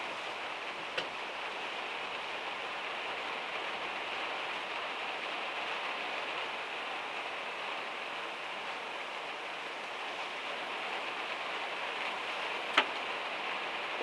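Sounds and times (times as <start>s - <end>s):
heavy rain on metal roof: 0.0s - 14.0s.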